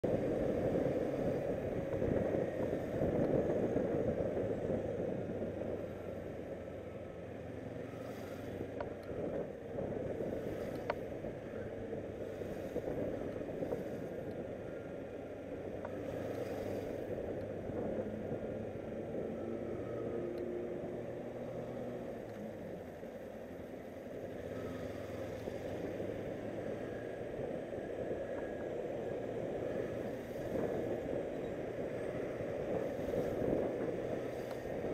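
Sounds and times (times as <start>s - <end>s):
wind and road noise: 0.0s - 34.9s.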